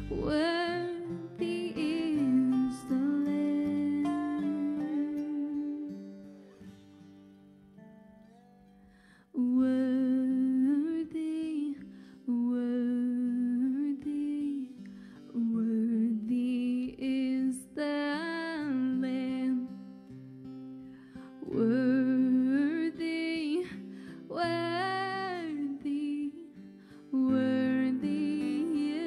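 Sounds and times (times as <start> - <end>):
acoustic guitar: 0.0 - 29.0.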